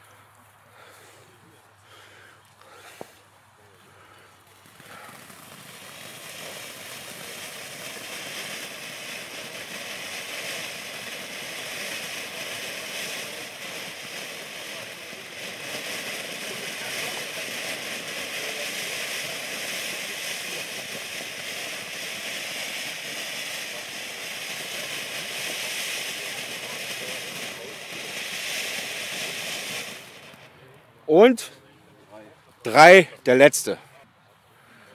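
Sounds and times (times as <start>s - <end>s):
firework fountain hissing sparks: 2.7s - 31.6s, 32.7s - 33.8s.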